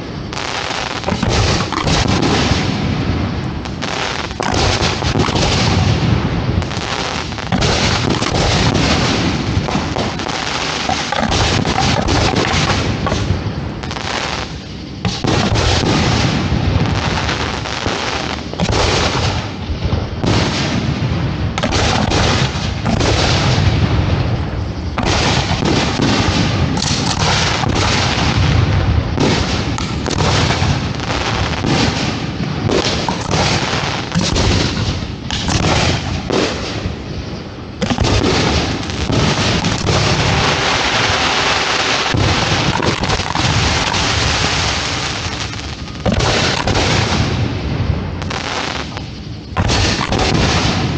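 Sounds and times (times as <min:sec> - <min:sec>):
fireworks booms: 0:00.0 - 0:50.9
fireworks launching and bursting: 0:00.0 - 0:50.9
fireworks rumble and crackle: 0:00.0 - 0:50.9.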